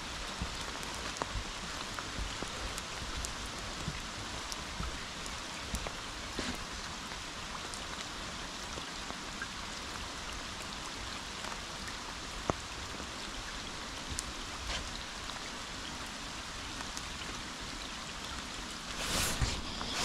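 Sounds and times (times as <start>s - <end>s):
raindrops ticking: 0.0s - 19.0s
rain falling: 0.0s - 20.0s.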